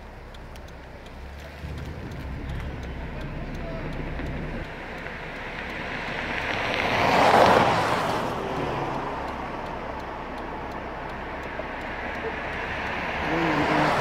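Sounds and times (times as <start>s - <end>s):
steady traffic noise: 0.0s - 14.0s
vehicle passing by: 1.0s - 14.0s.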